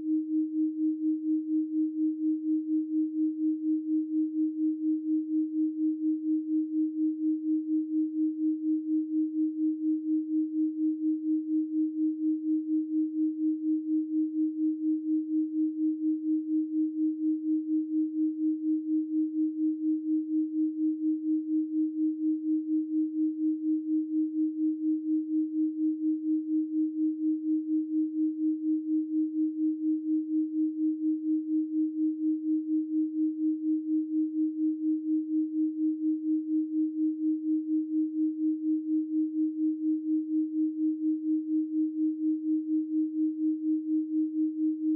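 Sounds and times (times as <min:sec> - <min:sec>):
wavering sine tone: 0:00.0 - 0:44.9.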